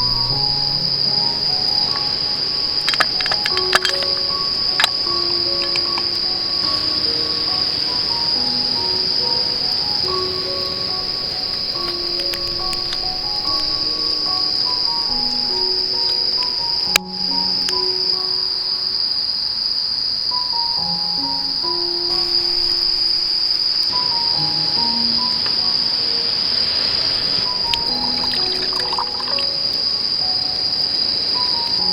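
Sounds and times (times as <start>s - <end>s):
insect chorus chirring: 0.0s - 31.9s
soft slow background music: 0.0s - 31.9s.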